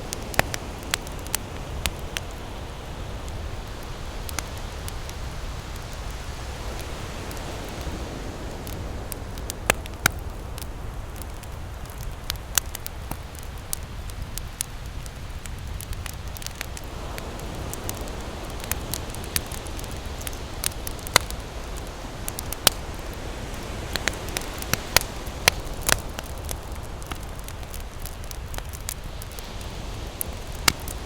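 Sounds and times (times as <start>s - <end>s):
ocean waves washing in: 0.0s - 12.0s, 16.1s - 31.0s
campfire crackling: 0.0s - 31.0s.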